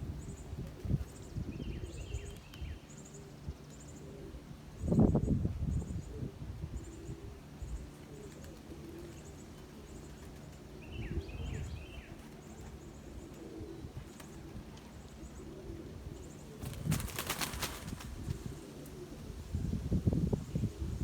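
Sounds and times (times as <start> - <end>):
small birds chirping: 0.0 - 4.2, 4.8 - 20.8
pigeons cooing: 0.0 - 21.0.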